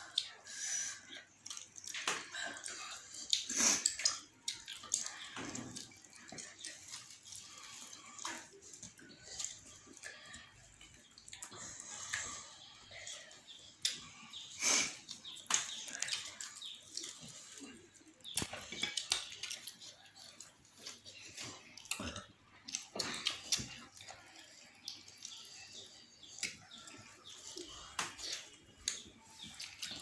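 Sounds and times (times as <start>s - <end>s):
fingers mixing food on plates: 0.0s - 30.0s
wet chewing and lip-smacking: 0.0s - 30.0s.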